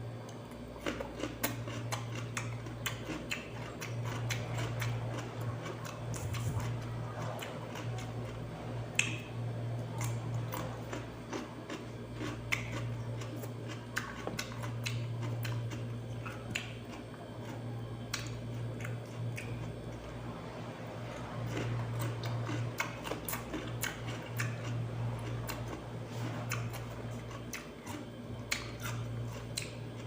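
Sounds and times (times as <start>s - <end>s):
steady low hum: 0.0s - 30.0s
cucumber crunching: 0.8s - 9.2s, 9.9s - 19.7s, 21.4s - 30.0s.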